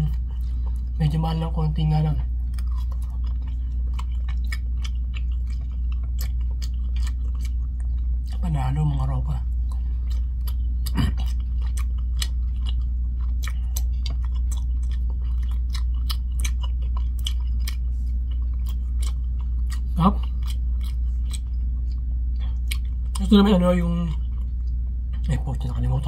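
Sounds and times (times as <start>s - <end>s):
person chewing wetly: 0.0s - 1.0s, 2.3s - 25.9s
steady low hum: 0.0s - 26.0s.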